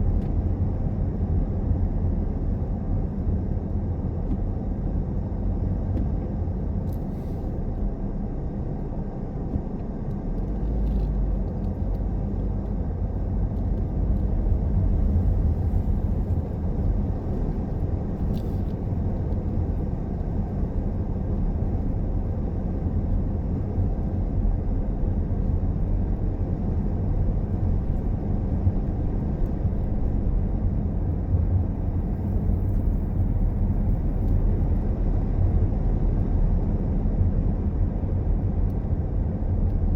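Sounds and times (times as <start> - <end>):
car engine rumble: 0.0 - 39.9
tyre road noise: 0.0 - 39.9.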